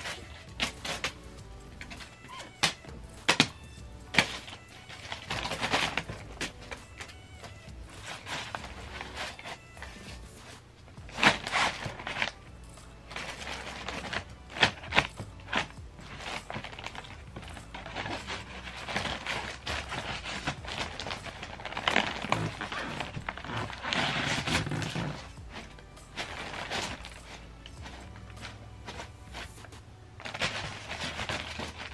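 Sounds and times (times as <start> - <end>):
paper crinkling and rustling: 0.0 - 12.4, 13.1 - 31.9.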